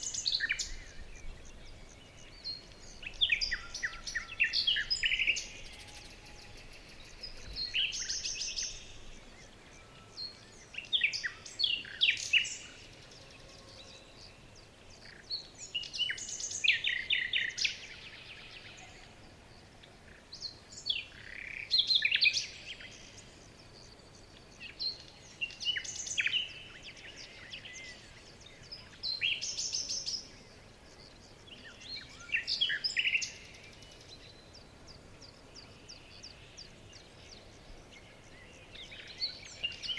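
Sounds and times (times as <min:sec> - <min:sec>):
bird singing trills: 0:00.0 - 0:19.2, 0:20.1 - 0:39.9
faint background hiss: 0:00.0 - 0:39.9.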